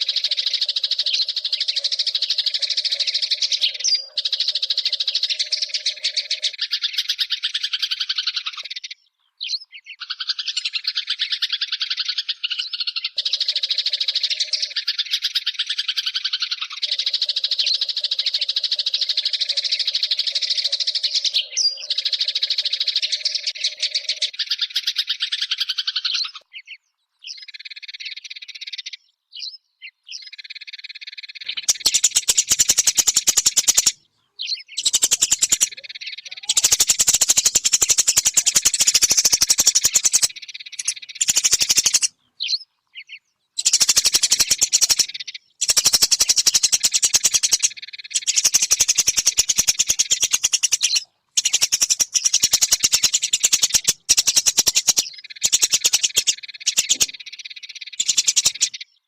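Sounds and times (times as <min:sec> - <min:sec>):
clicking bird chatter: 0:00.0 - 0:09.0, 0:09.9 - 0:26.6, 0:30.1 - 0:42.6, 0:43.6 - 0:59.0
sparrow chirping: 0:00.0 - 0:59.0.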